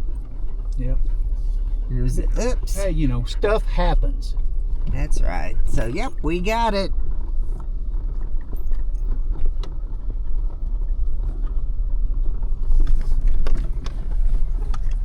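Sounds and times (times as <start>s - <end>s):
vehicle engine and tyres rumbling: 0.0s - 15.0s.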